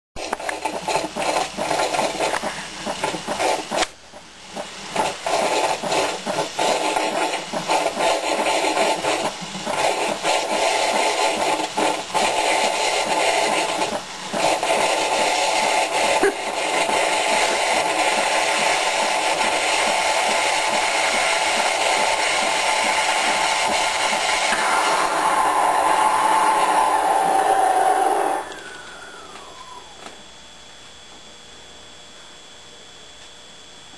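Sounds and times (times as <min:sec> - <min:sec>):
steam wand frothing milk: 0:00.2 - 0:30.1.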